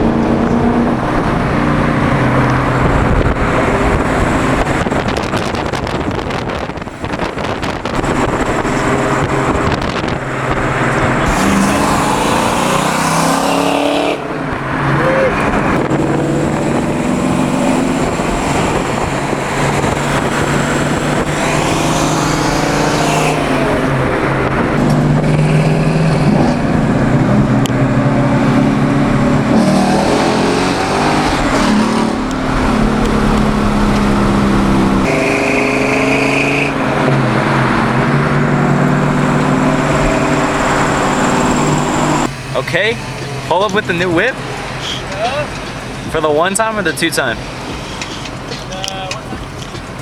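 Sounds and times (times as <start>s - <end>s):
car engine running: 0.0s - 29.6s, 31.2s - 46.2s.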